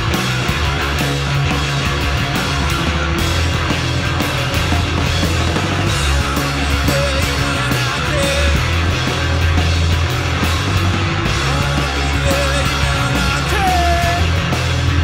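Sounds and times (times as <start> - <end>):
electric bass line: 0.0 - 15.0
electric guitar: 0.0 - 15.0
steady drum beat: 0.0 - 15.0.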